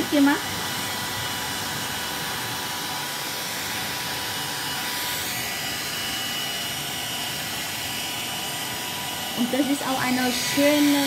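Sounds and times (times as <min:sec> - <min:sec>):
hair dryer running: 0:00.0 - 0:11.0.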